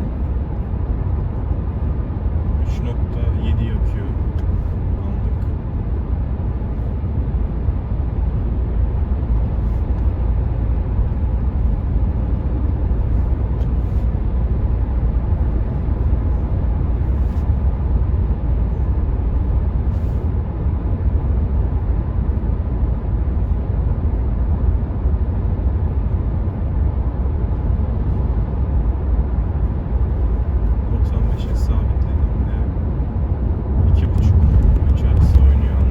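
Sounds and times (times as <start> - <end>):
road and tyre rumble: 0.0 - 35.9
wind noise inside car: 0.0 - 35.9.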